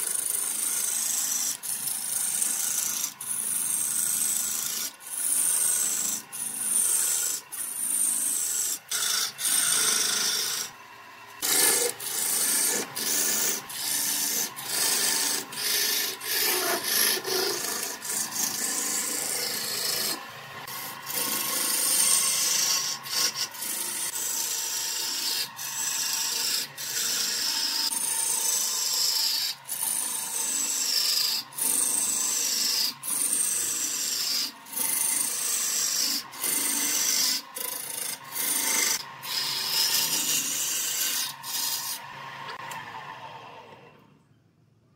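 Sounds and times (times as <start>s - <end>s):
gouge cutting wood on a lathe: 0.0s - 10.8s, 11.4s - 43.8s.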